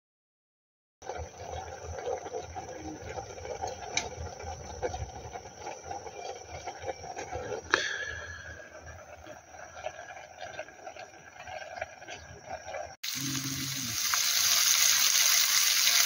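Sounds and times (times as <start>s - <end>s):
pot of rice bubbling: 1.0s - 16.0s.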